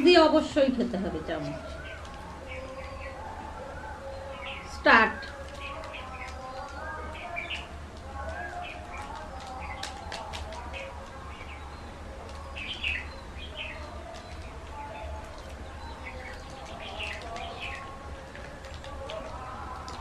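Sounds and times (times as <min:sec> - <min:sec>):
birds chirping: 0:00.0 - 0:20.0
people eating with spoons: 0:00.0 - 0:20.0.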